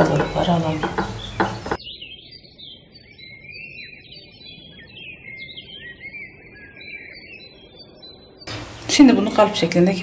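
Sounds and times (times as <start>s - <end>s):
birds chirping and warbling: 0.0s - 10.0s.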